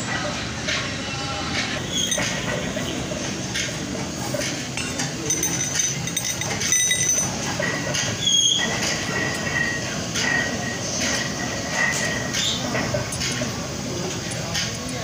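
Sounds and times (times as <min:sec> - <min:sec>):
steady rumbling background noise: 0:00.0 - 0:15.0
steel rollers clinking: 0:00.0 - 0:15.0.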